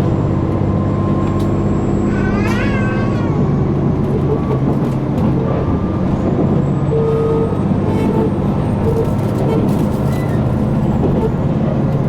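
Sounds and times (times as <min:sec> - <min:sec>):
railcar engine drone: 0:00.0 - 0:12.0.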